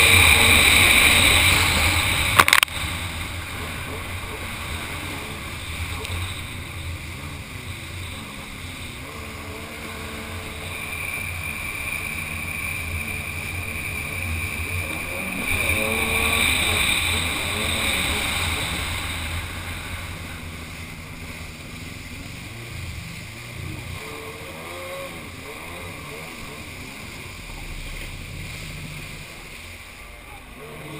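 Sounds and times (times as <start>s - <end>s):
jet ski engine on water: 0.0s - 30.9s.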